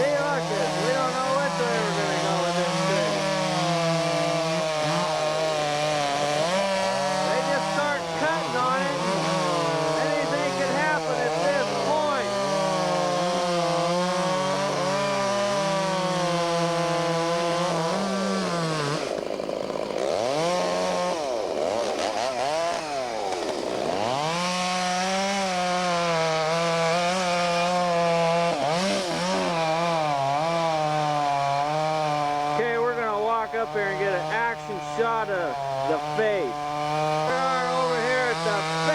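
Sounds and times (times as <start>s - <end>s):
chainsaw cutting a tree: 0.0s - 38.9s.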